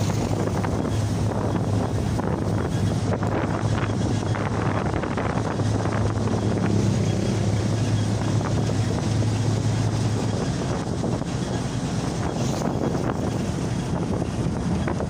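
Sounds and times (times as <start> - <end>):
low engine drone: 0.0 - 15.0
road and wind noise: 0.0 - 15.0.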